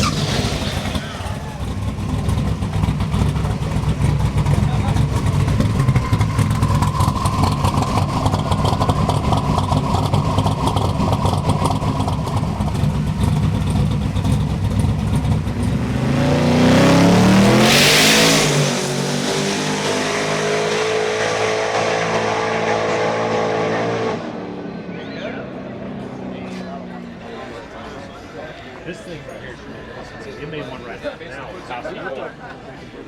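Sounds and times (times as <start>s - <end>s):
race engine idling and revving: 0.0s - 28.2s.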